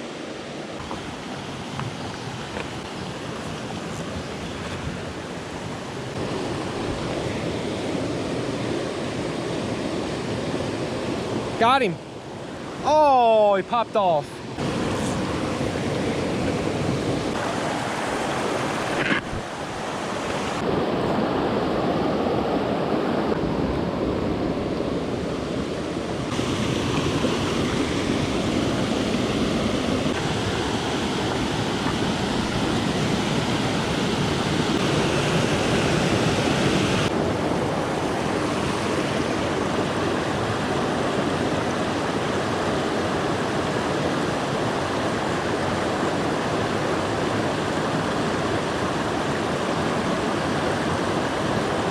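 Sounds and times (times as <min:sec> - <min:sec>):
stream running over rocks: 0:00.0 - 0:51.9.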